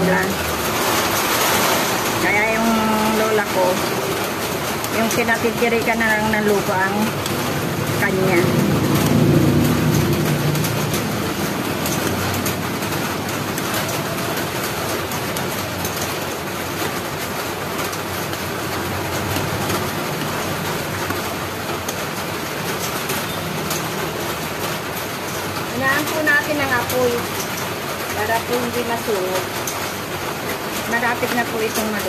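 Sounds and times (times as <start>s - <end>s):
thick mixture boiling and bubbling: 0.0s - 32.0s.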